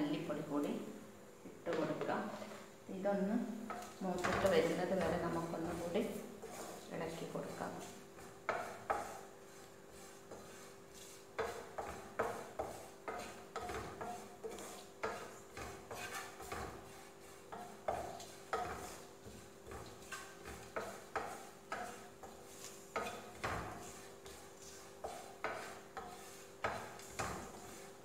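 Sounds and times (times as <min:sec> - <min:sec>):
wooden spatula scraping a frying pan: 0:03.5 - 0:28.0.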